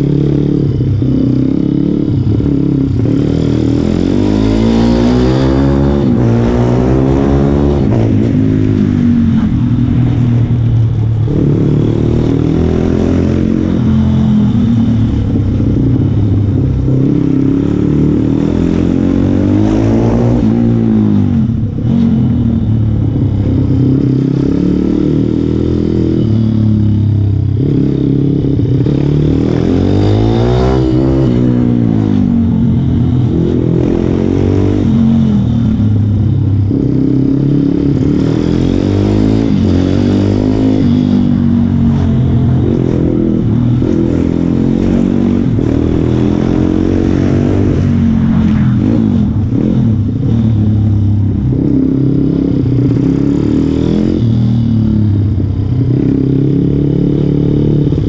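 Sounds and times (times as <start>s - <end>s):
small motorcycle engine revving: 11.2s - 58.0s.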